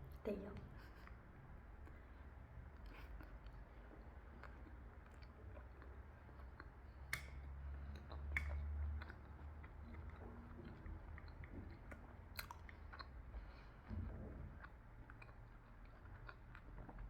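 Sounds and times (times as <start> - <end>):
person chewing food: 1.0 - 17.0.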